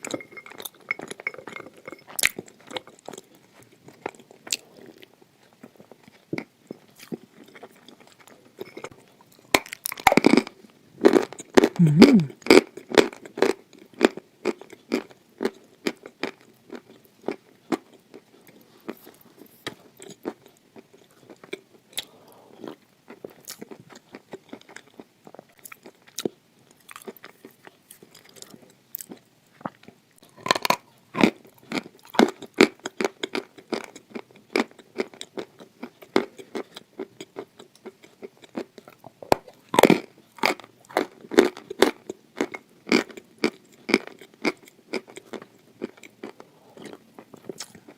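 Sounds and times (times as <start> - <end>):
clay crunching while chewed: 0.0 - 47.9.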